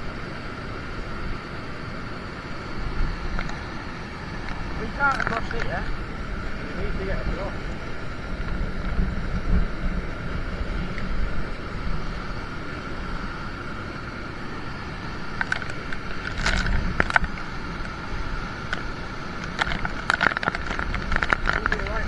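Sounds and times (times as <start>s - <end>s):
wind buffeting microphone: 2.6s - 22.0s.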